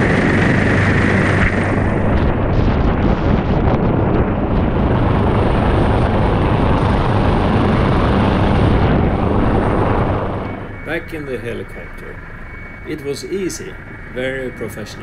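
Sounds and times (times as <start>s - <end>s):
helicopter turbine and rotor: 0.0s - 15.0s
wind buffeting microphone: 0.0s - 15.0s.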